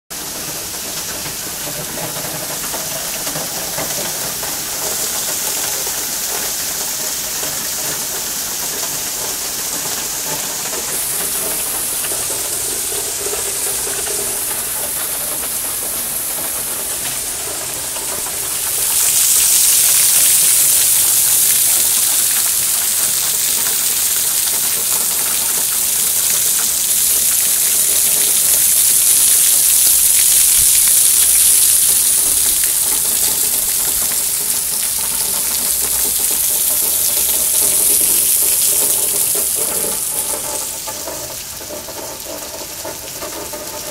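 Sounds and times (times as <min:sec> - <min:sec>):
heavy rain and hail: 0:00.2 - 0:43.9.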